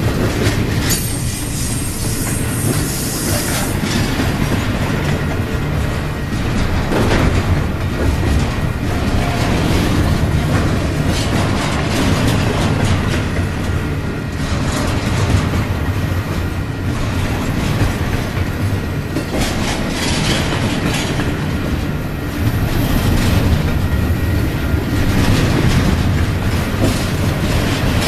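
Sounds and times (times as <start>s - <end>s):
freight train rumbling: 0.0s - 28.0s
wheels clicking on rails: 0.0s - 28.0s.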